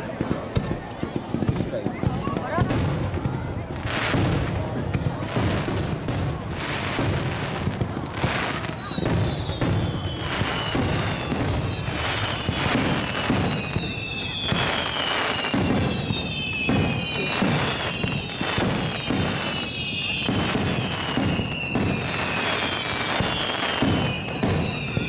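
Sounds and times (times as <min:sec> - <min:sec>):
firework bursts and booms: 0:00.0 - 0:25.0
descending firework whistles: 0:00.2 - 0:25.0.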